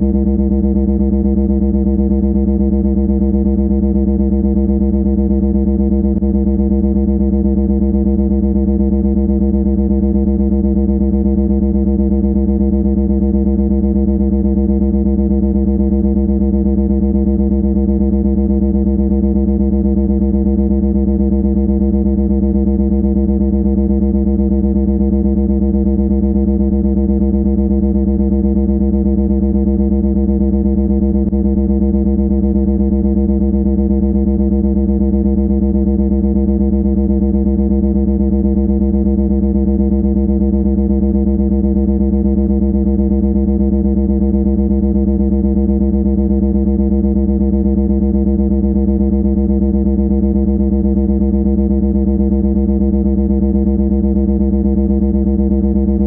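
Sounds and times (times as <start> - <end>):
harsh low buzzing tone: 0.0 - 56.0.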